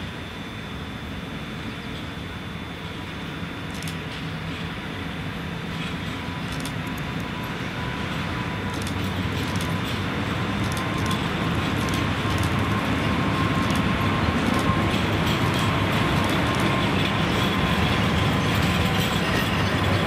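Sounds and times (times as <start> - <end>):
electric locomotive motor hum: 0.0 - 20.0
thin steady whine: 0.0 - 20.0
rail rumble: 1.6 - 20.0.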